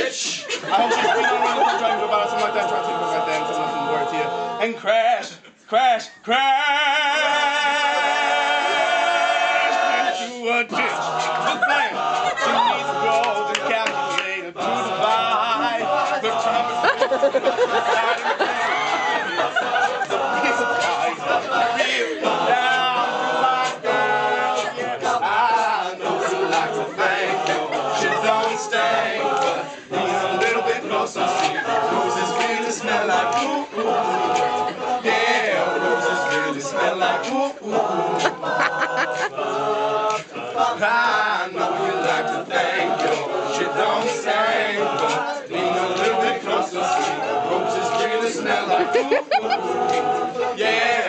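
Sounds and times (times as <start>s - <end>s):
male group singing in harmony: 0.0s - 5.4s, 6.2s - 51.0s.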